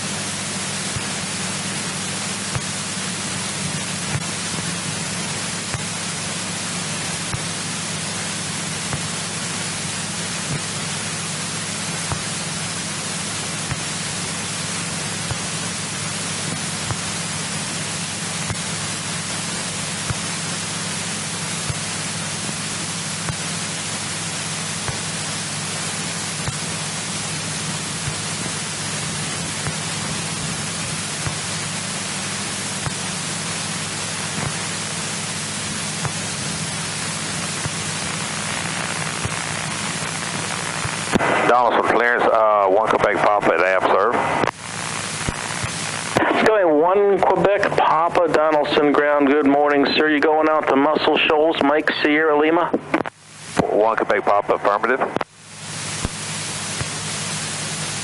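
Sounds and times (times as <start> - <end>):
low steady hum: 0.0 - 58.0
radio audio hiss: 0.0 - 58.0.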